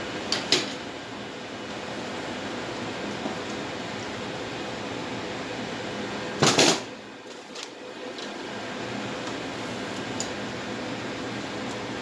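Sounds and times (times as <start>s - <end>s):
ventilation hiss: 0.0s - 12.0s.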